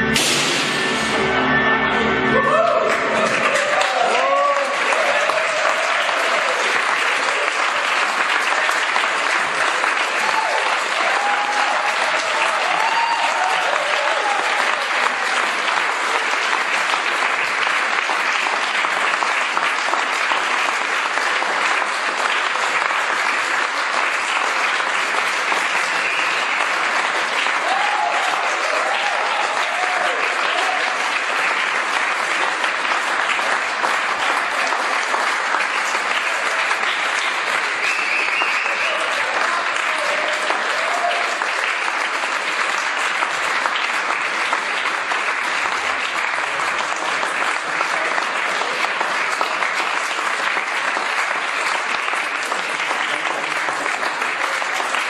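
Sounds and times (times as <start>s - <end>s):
audience clapping: 0.0s - 1.0s, 2.4s - 55.0s.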